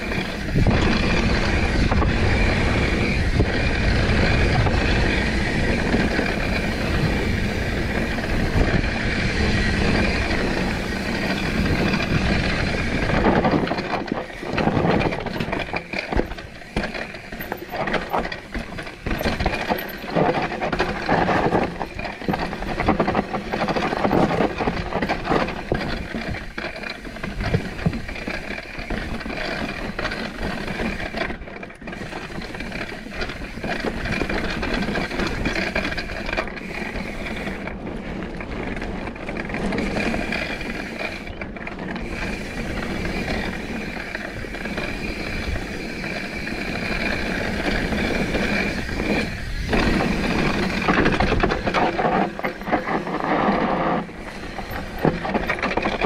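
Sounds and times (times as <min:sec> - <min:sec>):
bike chain rattling and clicking: 0:00.0 - 0:56.0
bike tyres crunching over rock: 0:00.0 - 0:56.0.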